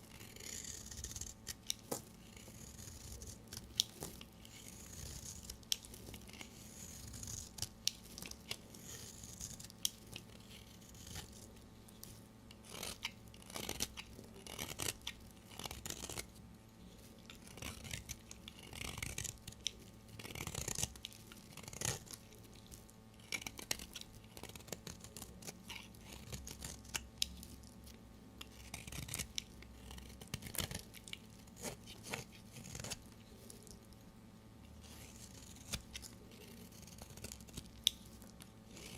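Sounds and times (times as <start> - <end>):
blade cutting dry soap: 0.0 - 11.6, 12.5 - 16.3, 17.2 - 33.8, 34.7 - 38.9.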